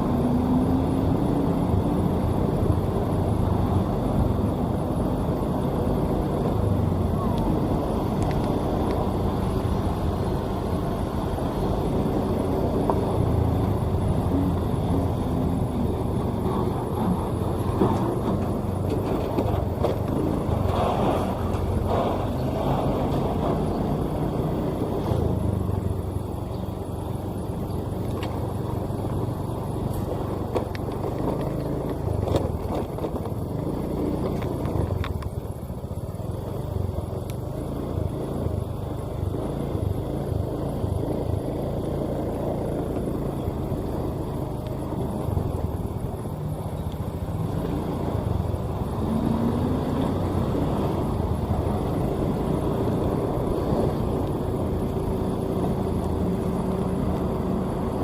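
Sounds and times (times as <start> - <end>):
diesel engine low drone: 0.0 - 58.0.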